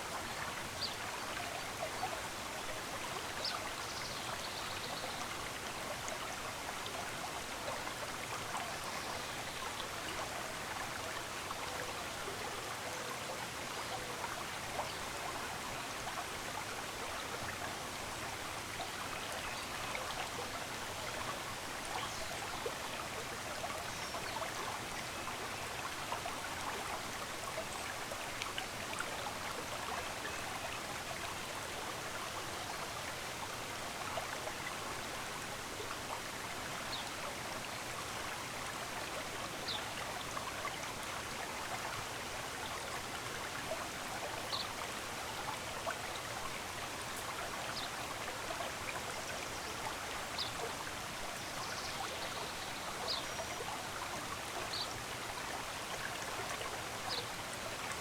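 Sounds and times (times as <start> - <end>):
stream of running water: 0.0 - 58.0.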